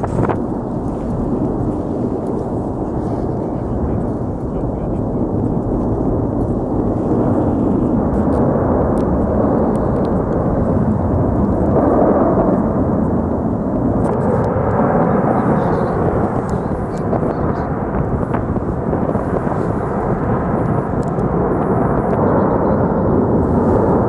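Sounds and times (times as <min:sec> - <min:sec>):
volcano vent roaring: 0:00.0 - 0:24.0.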